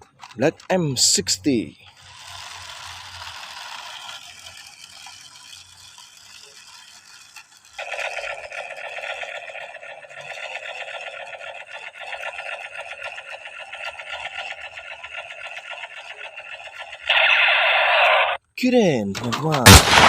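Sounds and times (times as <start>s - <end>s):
toy gun electronic firing rattle: 0.0s - 18.4s, 19.2s - 20.0s.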